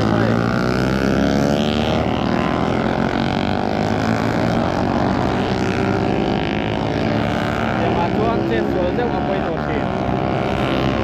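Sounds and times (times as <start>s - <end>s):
motorcycle engines droning: 0.0s - 11.0s.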